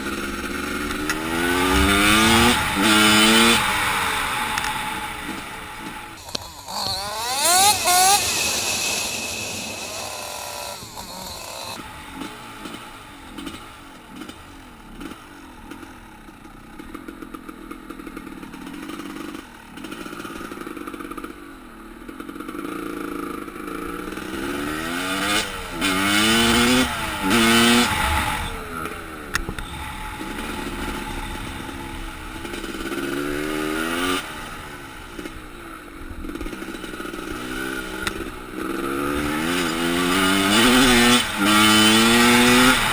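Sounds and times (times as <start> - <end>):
motorcycle engine revving: 0.0 - 21.4, 22.0 - 42.9.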